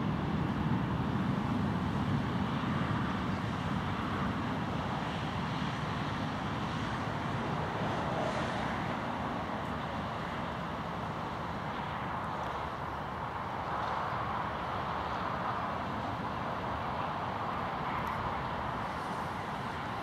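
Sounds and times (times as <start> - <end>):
distant jet engines with whine: 0.0 - 20.0.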